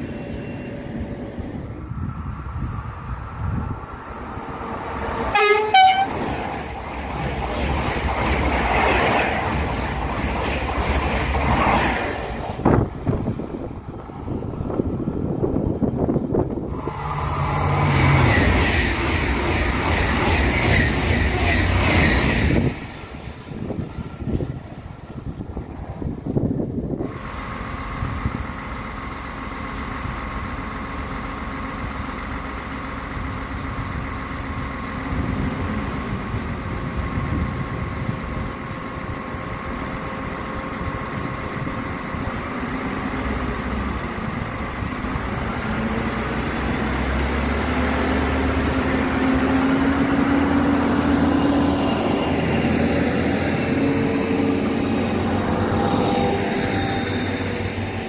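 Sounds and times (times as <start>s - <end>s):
diesel railcar passing: 0.0s - 58.0s.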